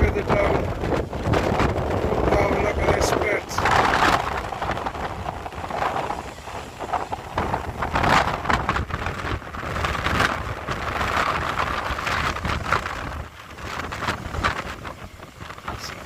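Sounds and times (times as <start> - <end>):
gusty wind buffeting microphone: 0.0 - 16.0
sea breaking on rocks: 0.4 - 15.8.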